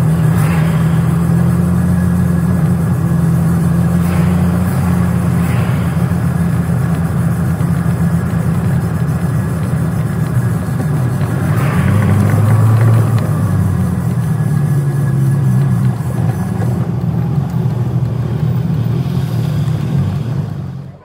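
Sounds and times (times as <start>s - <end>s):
car engine running: 0.0s - 21.0s
tyre noise: 0.0s - 21.0s.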